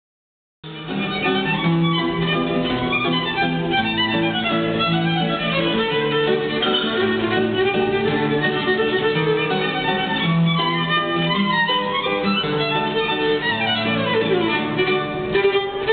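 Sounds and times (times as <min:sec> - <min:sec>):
acoustic guitar: 0:00.6 - 0:15.9
violin melody: 0:00.7 - 0:15.9.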